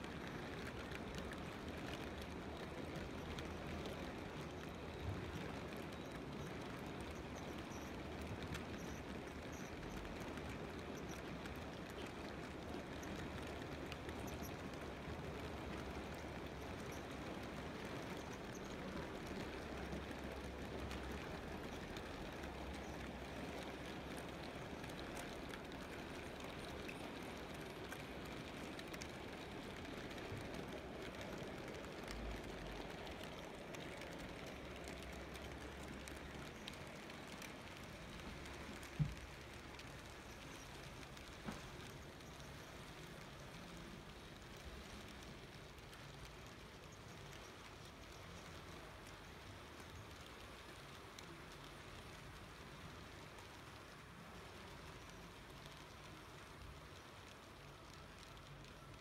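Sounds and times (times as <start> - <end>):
faint clicks: 0.0 - 59.0
model train wheels rumbling: 0.0 - 59.0.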